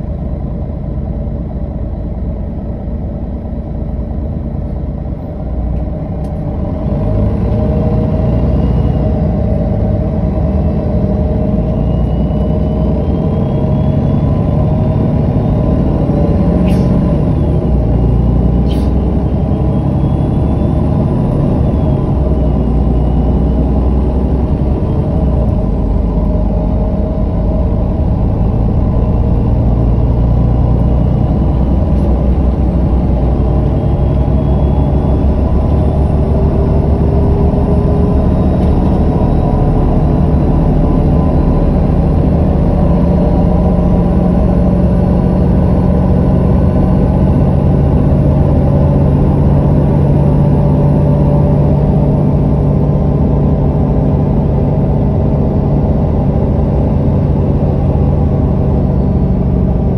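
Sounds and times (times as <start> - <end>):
bus diesel engine accelerating: 0.0 - 59.9
whining tones climbing in pitch: 3.8 - 59.9.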